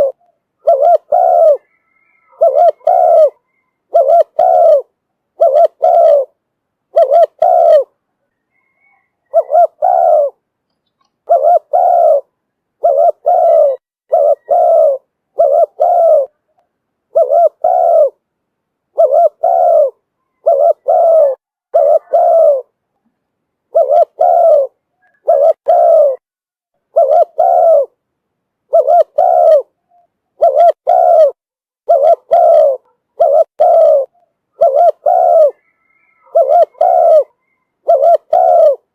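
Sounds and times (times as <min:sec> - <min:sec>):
dove cooing: 0:00.0 - 0:10.4, 0:11.2 - 0:18.2, 0:18.9 - 0:22.8, 0:23.7 - 0:26.2, 0:26.8 - 0:28.0, 0:28.7 - 0:38.9.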